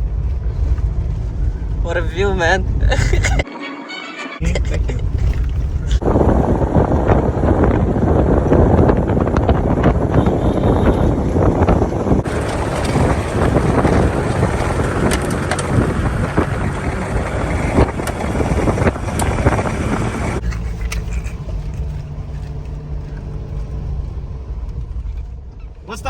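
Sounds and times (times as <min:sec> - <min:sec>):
road and wind noise: 0:00.0 - 0:03.5, 0:04.4 - 0:26.0
low hum: 0:00.0 - 0:25.8.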